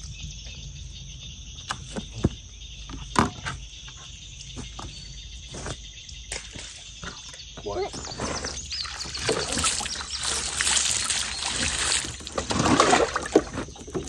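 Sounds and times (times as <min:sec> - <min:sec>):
insect chorus: 0:00.0 - 0:14.0.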